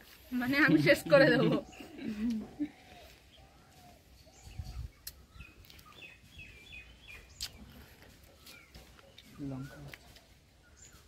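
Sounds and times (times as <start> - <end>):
small bird chirping: 1.6 - 11.0.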